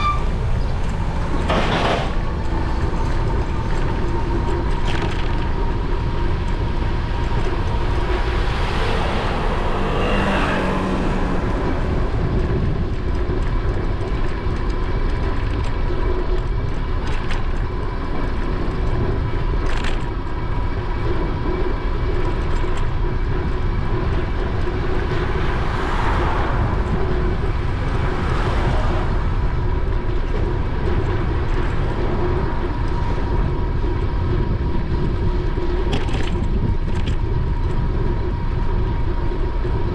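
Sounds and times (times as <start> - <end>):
traffic passing: 0.0 - 39.9
wind rushing over microphone: 0.0 - 39.9.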